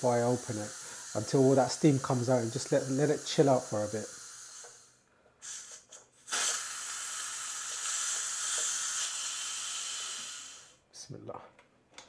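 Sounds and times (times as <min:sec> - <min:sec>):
steam hissing from valve: 0:00.0 - 0:10.8.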